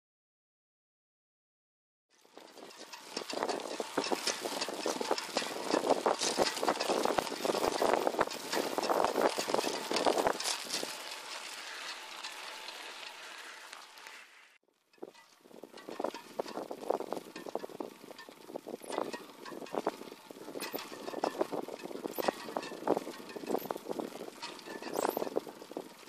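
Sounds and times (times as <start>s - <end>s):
bicycle wheel ticking and rattling: 2.1s - 26.0s.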